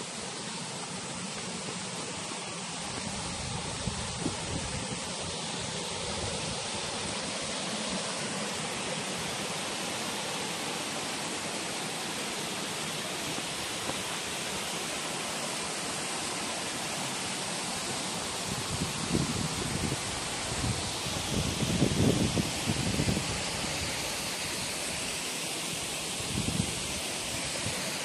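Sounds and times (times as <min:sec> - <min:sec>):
mountain stream rushing: 0:00.0 - 0:28.0.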